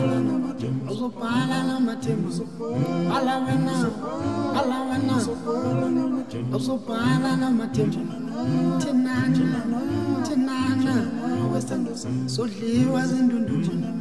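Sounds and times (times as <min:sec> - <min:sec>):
man singing: 0:00.0 - 0:14.0
music with singing voices: 0:00.0 - 0:14.0.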